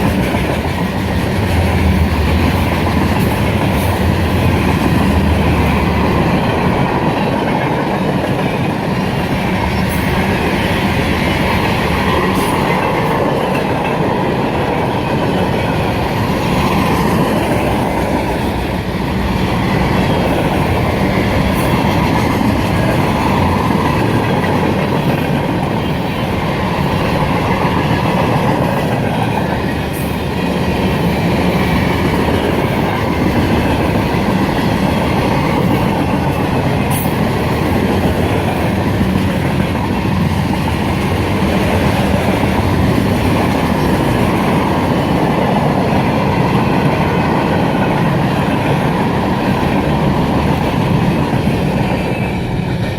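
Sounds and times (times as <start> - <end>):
freight train cars rolling: 0.0 - 52.9.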